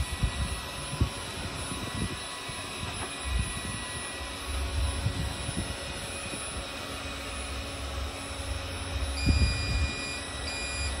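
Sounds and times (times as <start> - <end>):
robot suction fan whine: 0.0 - 11.0.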